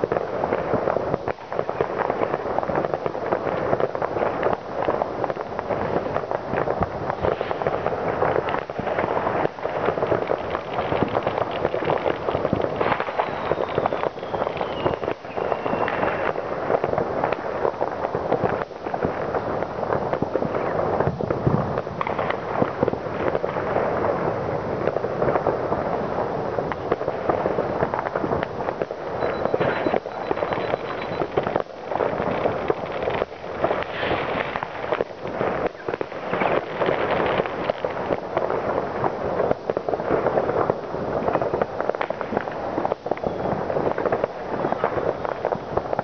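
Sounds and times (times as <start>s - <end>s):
distant fireworks crackling and banging: 0.0s - 46.0s.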